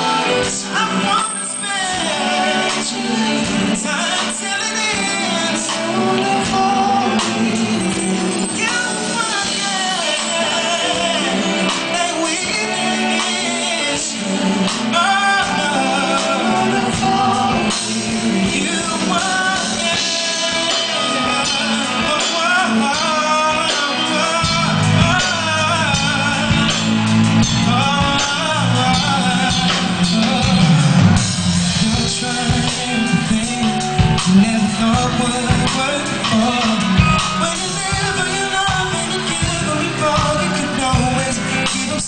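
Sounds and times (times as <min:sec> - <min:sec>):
live band playing: 0:00.0 - 0:42.0
man singing vocal runs: 0:00.0 - 0:42.0.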